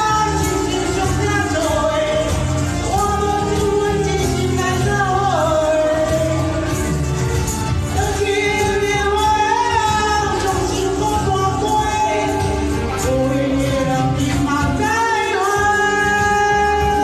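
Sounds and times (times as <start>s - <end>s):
karaoke backing track: 0.0s - 17.0s
woman singing pop ballad: 0.0s - 17.0s.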